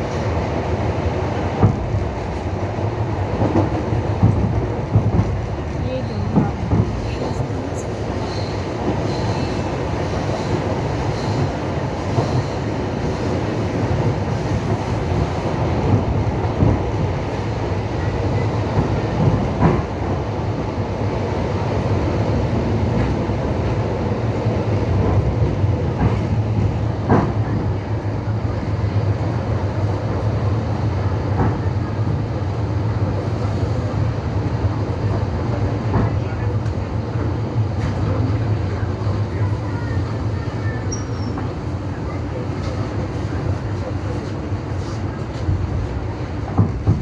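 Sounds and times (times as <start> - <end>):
train wheels clattering on track: 0.0 - 41.7, 42.3 - 47.0.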